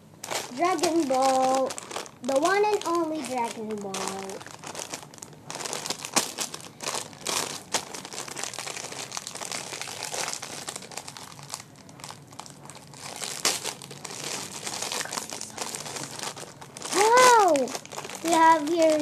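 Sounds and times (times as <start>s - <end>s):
foil packet crinkling and tearing: 0.2s - 19.0s.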